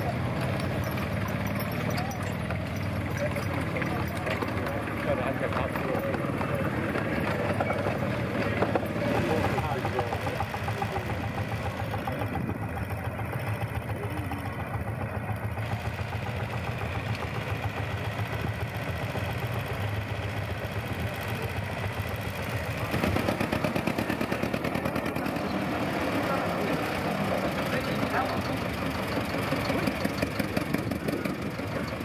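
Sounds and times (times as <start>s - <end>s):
loud wheel loader engine: 0.0s - 32.0s
tractor engine running: 0.0s - 32.0s.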